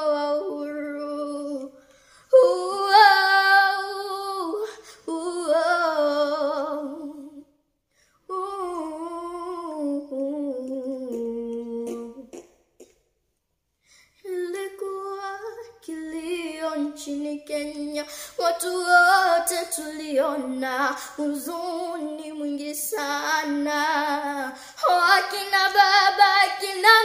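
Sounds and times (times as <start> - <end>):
child singing wordless melody: 0.0 - 1.8, 2.4 - 7.5, 8.3 - 12.4, 14.3 - 27.0.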